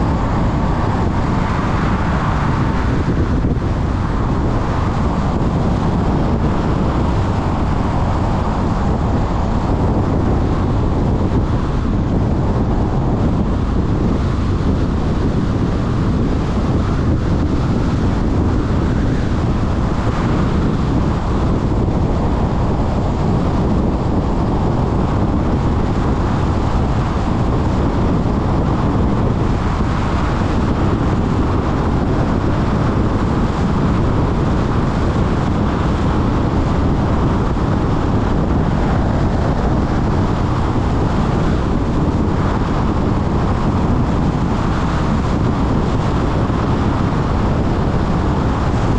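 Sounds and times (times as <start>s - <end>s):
wind and road noise in car: 0.0s - 48.9s
wind buffeting microphone: 0.0s - 48.9s.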